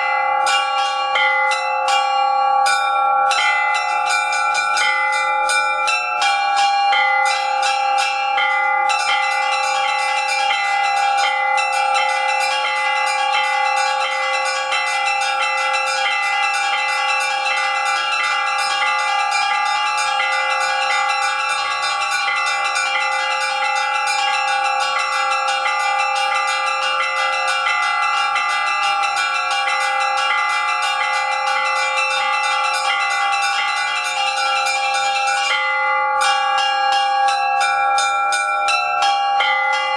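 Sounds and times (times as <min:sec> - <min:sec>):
large church bells ringing: 0:00.0 - 0:39.9
small church bells chiming: 0:00.0 - 0:39.9.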